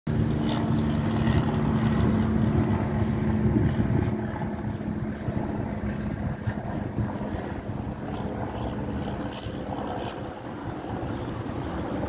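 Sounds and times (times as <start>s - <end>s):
propeller aircraft passing overhead: 0.1s - 12.0s.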